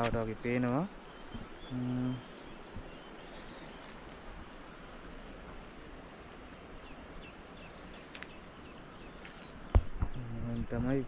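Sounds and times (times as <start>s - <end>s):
faint bird chirps: 0.0s - 5.8s, 6.5s - 11.0s
insect droning: 0.0s - 11.0s.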